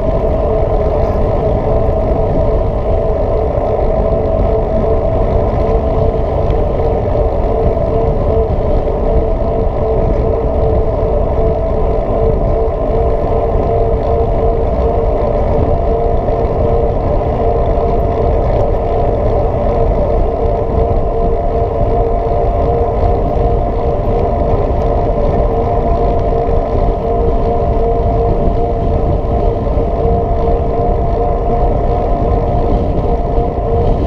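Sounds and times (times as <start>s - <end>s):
wind rushing over camera: 0.0s - 34.0s.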